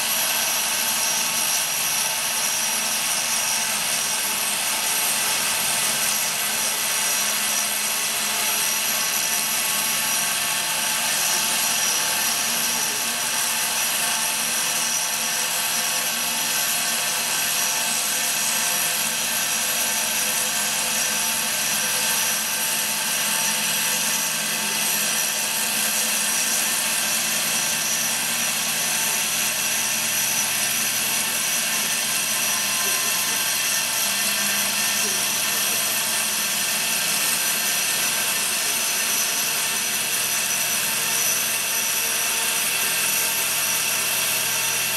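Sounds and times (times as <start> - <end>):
foam-cutting machine hiss and whine: 0.0 - 44.9.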